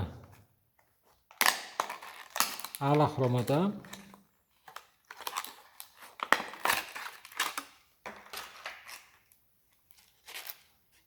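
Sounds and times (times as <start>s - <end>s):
plastic packaging crinkling: 1.3s - 11.0s.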